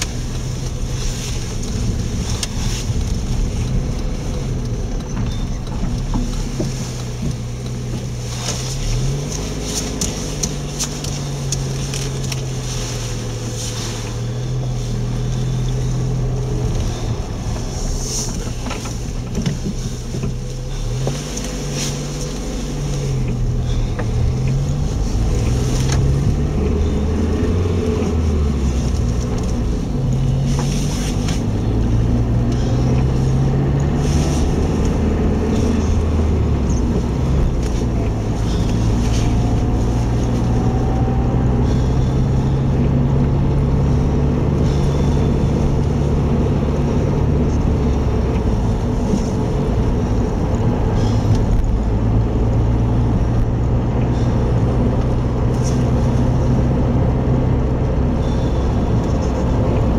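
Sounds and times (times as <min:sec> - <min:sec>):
car engine inside moving car: 0:00.0 - 0:59.9.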